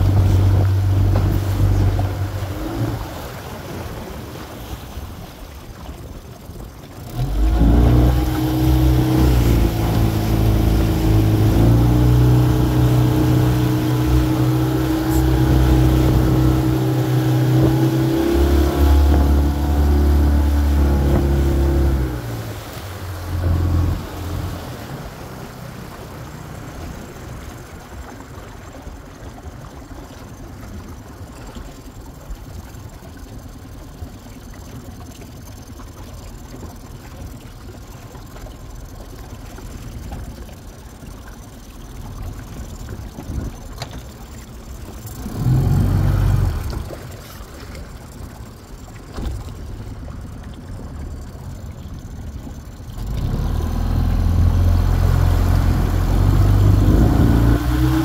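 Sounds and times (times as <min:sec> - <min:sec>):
outboard motor running hard: 0:00.0 - 0:58.0
water wash: 0:00.0 - 0:58.0.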